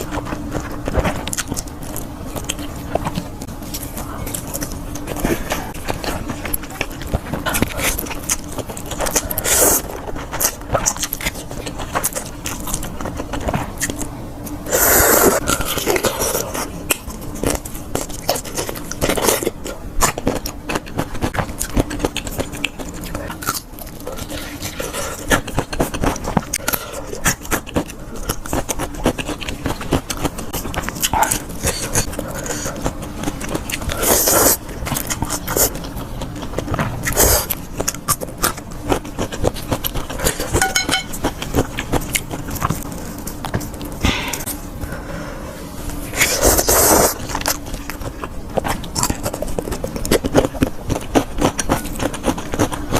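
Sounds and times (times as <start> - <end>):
chewing and crunching: 0.0 - 52.9.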